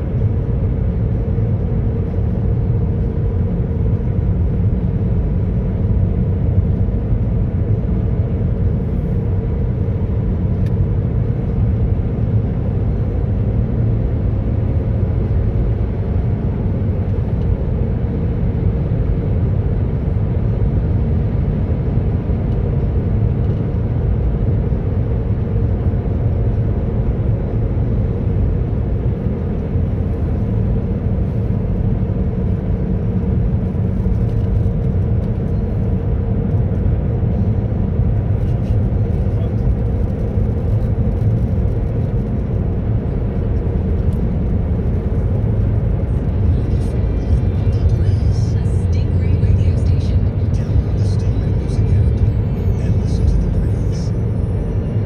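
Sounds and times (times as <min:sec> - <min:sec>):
car road rumble inside cabin: 0:00.0 - 0:55.0.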